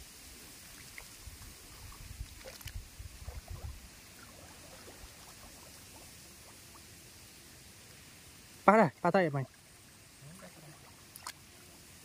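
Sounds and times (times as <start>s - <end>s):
steady hiss: 0.0s - 12.0s
water sloshing and dripping: 0.6s - 7.9s, 9.0s - 11.8s.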